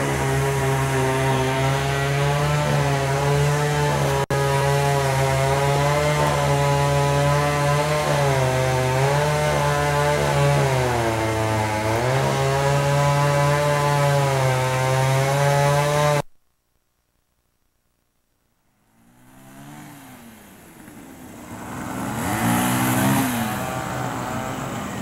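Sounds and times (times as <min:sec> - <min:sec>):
chainsaw engine running: 0:00.0 - 0:16.2, 0:18.8 - 0:25.0.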